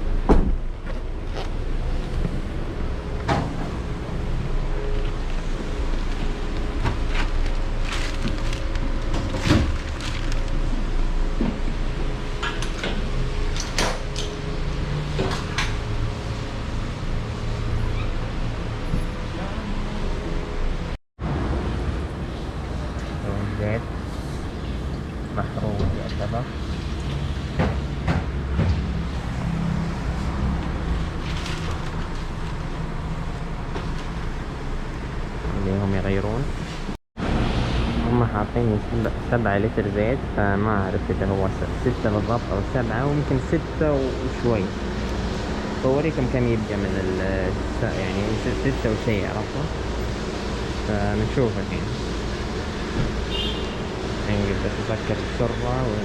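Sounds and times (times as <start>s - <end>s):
vehicle engine humming: 0.0s - 36.9s, 37.8s - 56.0s.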